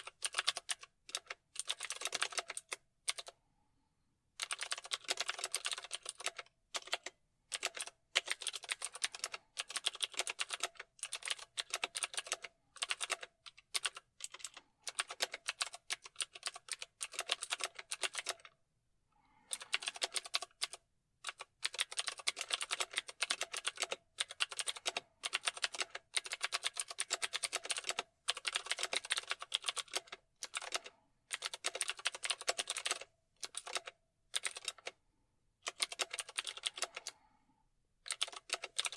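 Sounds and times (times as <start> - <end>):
computer keyboard typing: 0.0 - 3.4, 4.4 - 18.6, 19.4 - 35.0, 35.6 - 37.2, 38.0 - 38.9.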